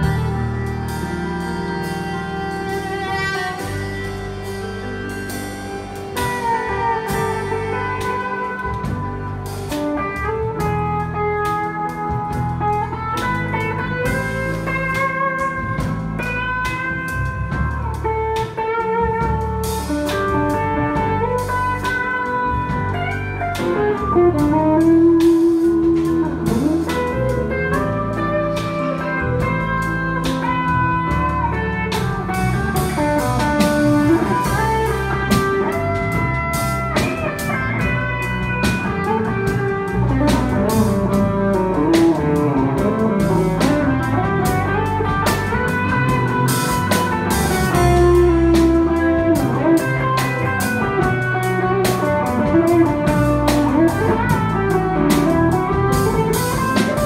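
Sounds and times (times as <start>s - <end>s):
drum kit: 0.0s - 57.0s
electric bass: 0.0s - 57.0s
electric guitar lead melody: 0.0s - 57.0s
electric keyboard: 0.0s - 57.0s.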